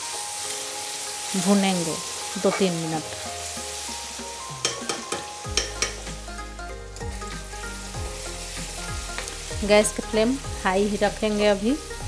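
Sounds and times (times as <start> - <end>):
onions sizzling in oil: 0.0 - 12.0
soft background music: 0.0 - 12.0.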